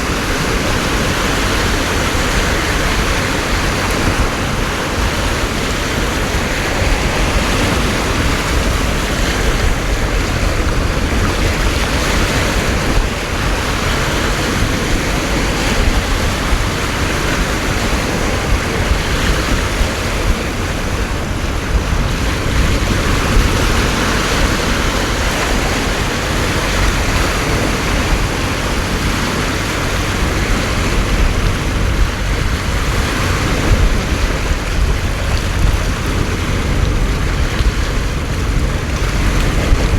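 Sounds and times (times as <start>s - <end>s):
heavy rain: 0.0s - 39.9s
wind rumbling on microphone: 0.0s - 39.9s.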